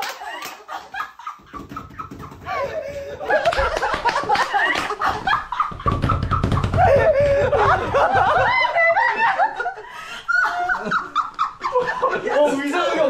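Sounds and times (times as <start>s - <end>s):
group of people laughing: 0.0s - 13.0s.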